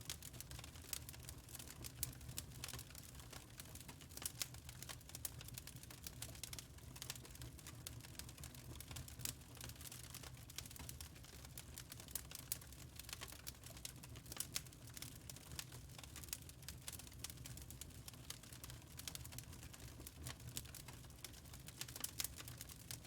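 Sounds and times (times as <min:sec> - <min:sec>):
wood fire crackling: 0:00.0 - 0:23.0
burning logs popping: 0:00.1 - 0:23.0.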